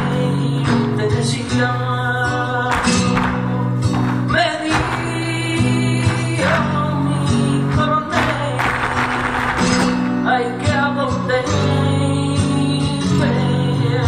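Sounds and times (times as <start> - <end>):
person singing: 0.0 - 14.0
strummed acoustic guitar: 0.0 - 14.0.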